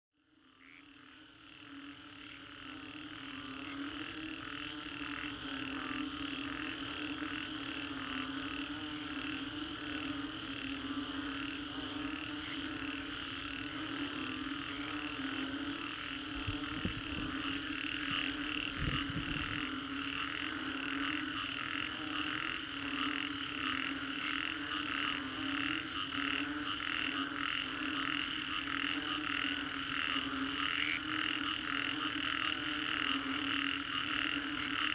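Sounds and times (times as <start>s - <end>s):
frogs calling: 0.2s - 34.9s.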